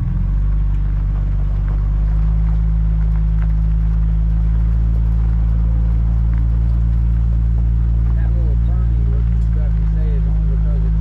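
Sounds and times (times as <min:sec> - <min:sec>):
car engine and tyres droning: 0:00.0 - 0:11.0.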